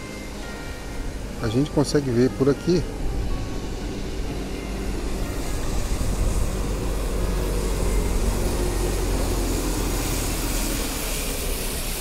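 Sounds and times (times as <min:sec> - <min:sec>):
bus engine rumbling: 0:00.0 - 0:12.0
road noise: 0:00.0 - 0:12.0.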